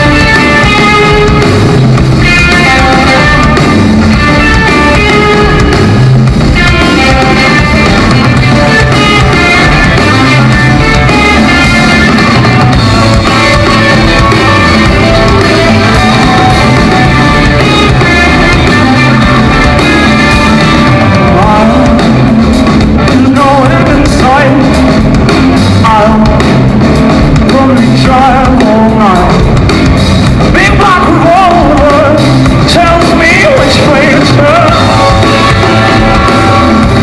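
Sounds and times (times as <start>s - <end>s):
drum kit: 0.0s - 37.0s
electric guitars: 0.0s - 37.0s.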